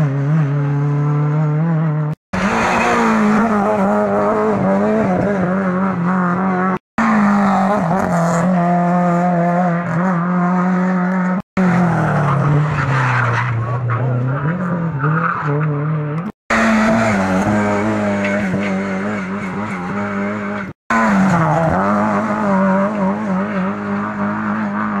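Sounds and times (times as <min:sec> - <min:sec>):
rally car engines at high revs: 0:00.0 - 0:25.0.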